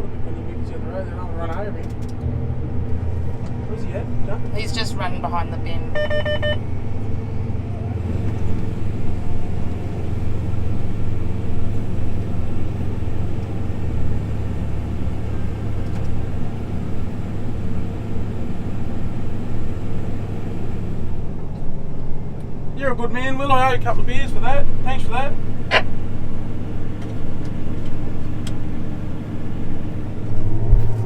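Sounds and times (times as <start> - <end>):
combine harvester engine droning: 0.0 - 31.0.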